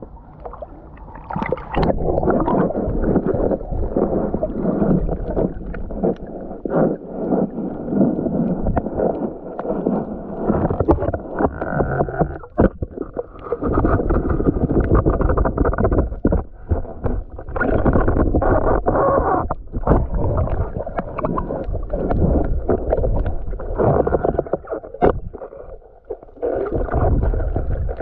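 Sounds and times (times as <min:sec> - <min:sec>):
water sloshing and gurgling: 0:00.0 - 0:28.0.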